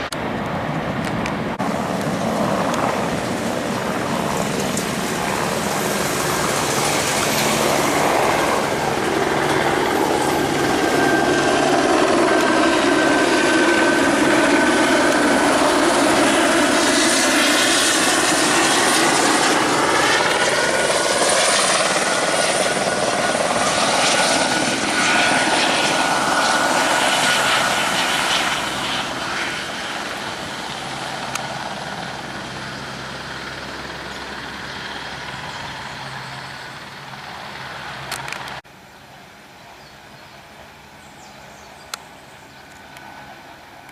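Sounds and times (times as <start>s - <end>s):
jet engines at takeoff: 0.0s - 43.9s.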